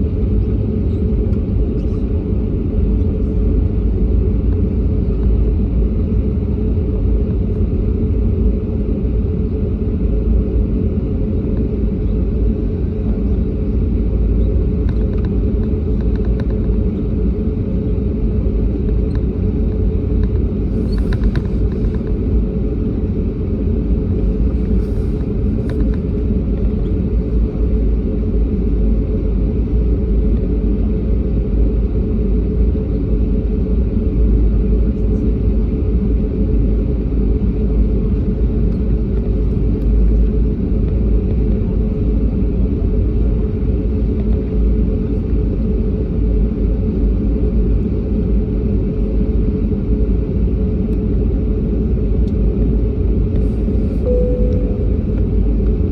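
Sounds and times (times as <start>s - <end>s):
jet engine rumble: 0.0s - 55.9s.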